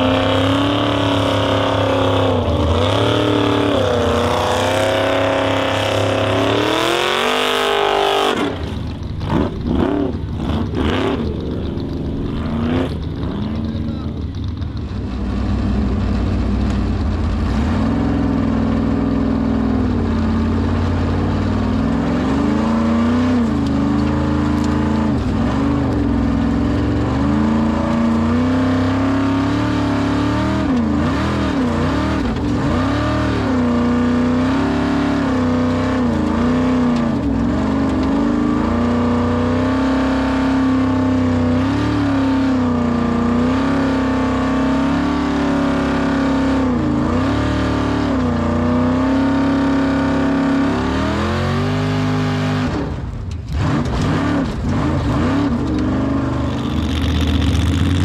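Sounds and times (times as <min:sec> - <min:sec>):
engine revving hard: 0:00.0 - 0:11.6, 0:17.5 - 0:58.0.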